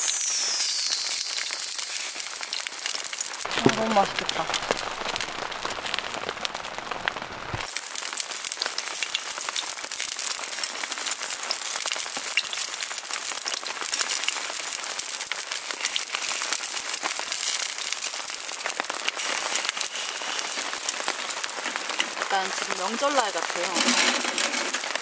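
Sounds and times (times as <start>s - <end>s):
food frying in oil: 0.0s - 25.0s
rain pattering: 0.0s - 25.0s.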